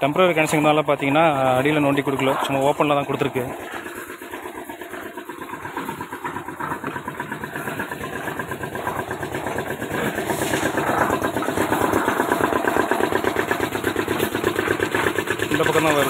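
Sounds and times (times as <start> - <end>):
motor running with even throb: 0.0 - 16.0.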